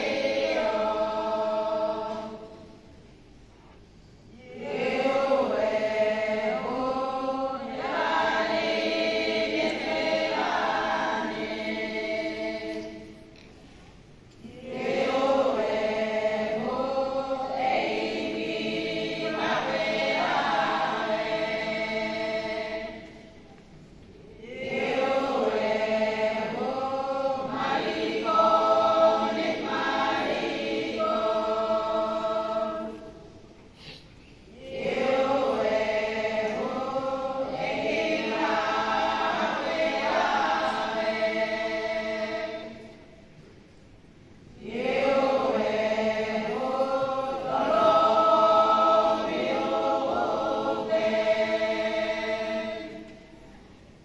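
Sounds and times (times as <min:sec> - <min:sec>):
women's choir singing: 0:00.0 - 0:03.1, 0:04.3 - 0:33.6, 0:34.5 - 0:54.0.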